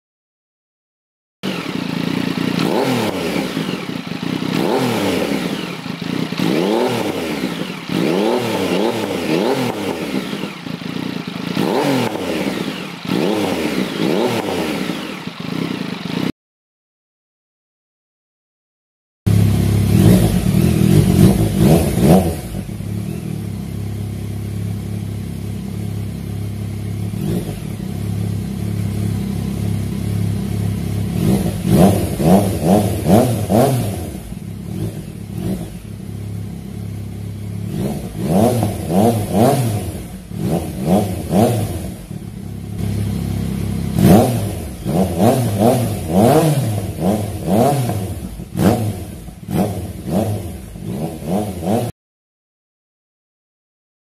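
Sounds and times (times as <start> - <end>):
motorcycle engine idling and revving: 1.4 - 16.4, 19.3 - 52.0.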